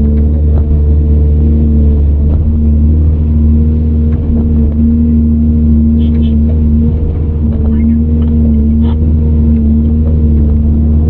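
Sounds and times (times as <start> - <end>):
engine whine: 0.0 - 11.0
excavator diesel engine drone: 0.0 - 11.0.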